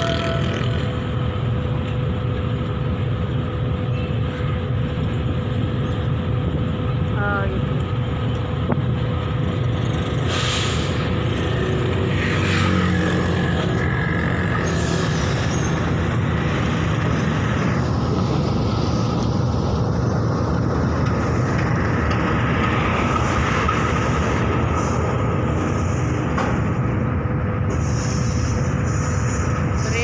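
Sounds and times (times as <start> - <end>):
freight train passing: 0.0 - 30.0.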